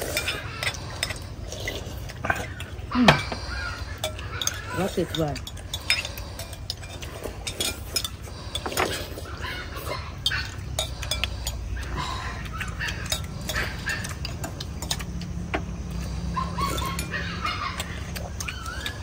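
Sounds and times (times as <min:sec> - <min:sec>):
spoons clinking on porcelain bowls: 0:00.0 - 0:01.8, 0:02.4 - 0:09.2, 0:09.9 - 0:11.8, 0:12.6 - 0:15.1, 0:16.5 - 0:19.0.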